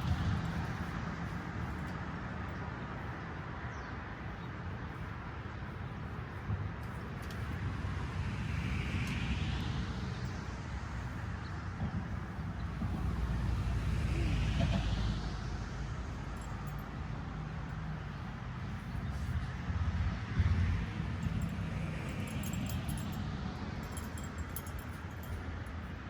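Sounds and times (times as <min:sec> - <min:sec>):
low traffic rumble: 0:00.0 - 0:26.0.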